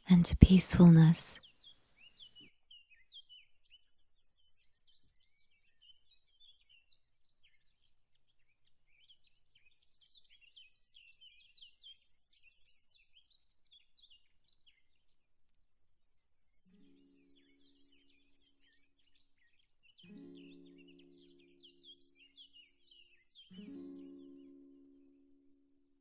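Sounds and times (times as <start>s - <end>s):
small birds chirping: 0.0s - 26.0s
insects droning and trilling: 2.7s - 19.1s, 20.8s - 26.0s.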